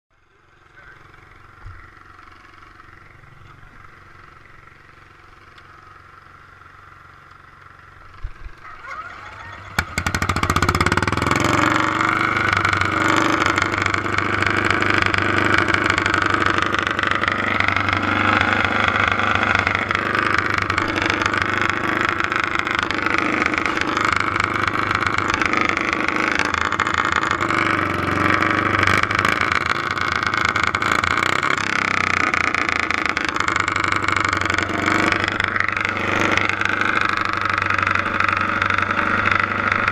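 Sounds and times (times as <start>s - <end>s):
tractor engine running: 0.1s - 39.9s.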